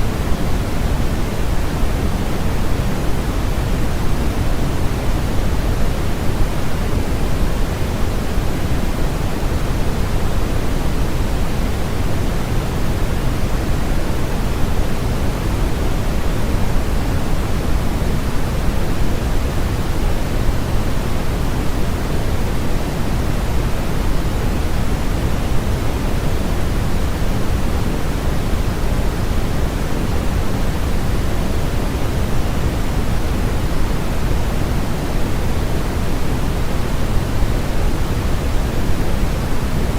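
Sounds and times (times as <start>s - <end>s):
deep static-like noise: 0.0s - 39.9s.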